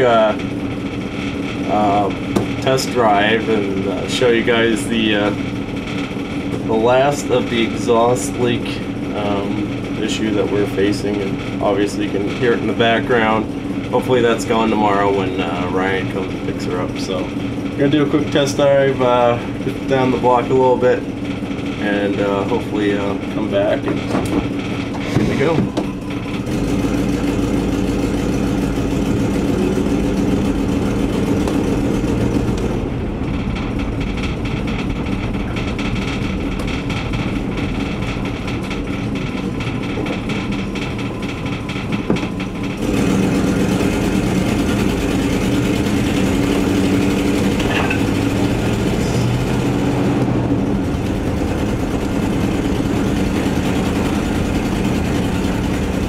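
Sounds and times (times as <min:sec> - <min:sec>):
exhaust leak noise: 0:00.0 - 0:56.0
van engine running: 0:00.0 - 0:56.0.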